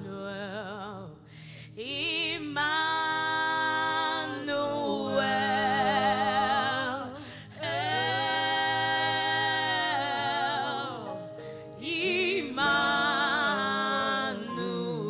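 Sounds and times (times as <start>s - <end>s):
solo voice singing with vibrato: 0.0s - 15.0s.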